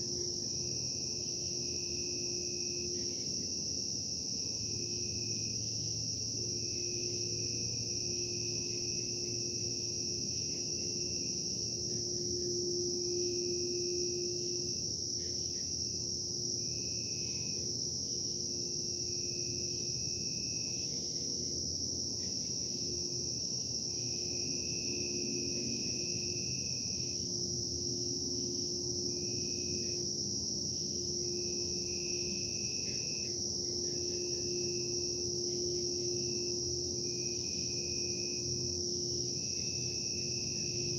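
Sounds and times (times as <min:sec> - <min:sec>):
insects chirping: 0:00.0 - 0:40.9
low insect trill: 0:00.0 - 0:40.9.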